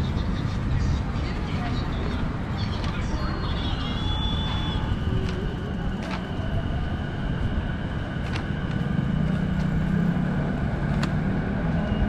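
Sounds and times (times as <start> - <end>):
traffic rumble: 0.0 - 12.0
train rumbling on viaduct: 0.0 - 12.0.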